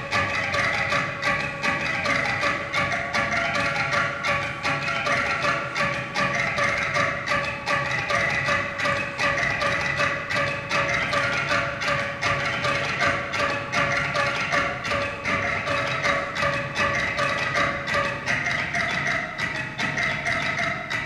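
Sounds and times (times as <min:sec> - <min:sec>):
wooden-sounding rhythmic clicks and knocks: 0:00.0 - 0:21.0.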